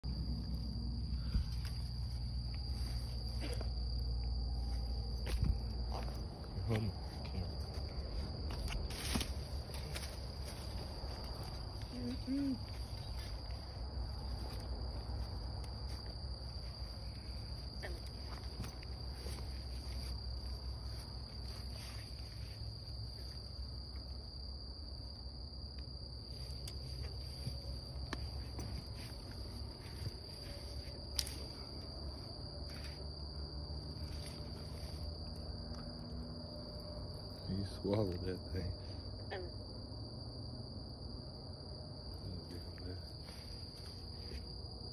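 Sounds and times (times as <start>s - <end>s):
crickets trilling: 0.0s - 44.9s.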